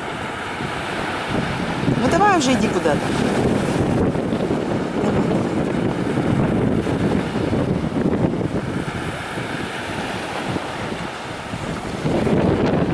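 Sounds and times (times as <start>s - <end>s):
surf washing on beach: 0.0s - 12.9s
wind buffeting microphone: 0.0s - 12.9s.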